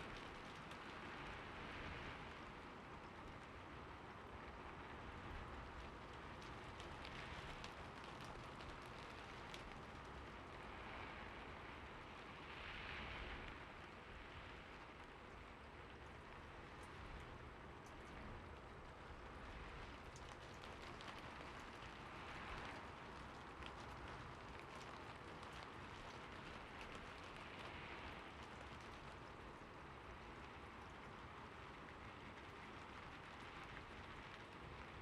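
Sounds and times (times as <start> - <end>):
quiet steady rain: 0.0 - 35.0
rain drops ticking: 0.0 - 35.0.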